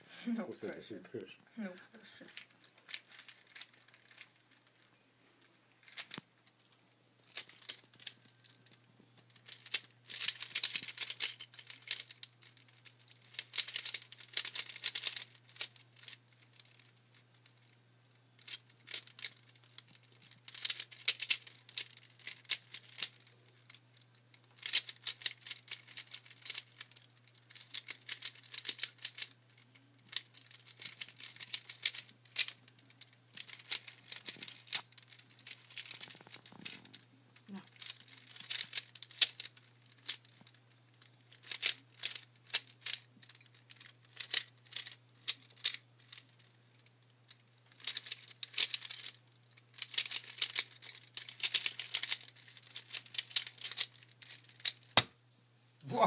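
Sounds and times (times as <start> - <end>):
puzzle cube clicking rattle: 2.3 - 4.9, 5.8 - 17.8, 18.4 - 55.1.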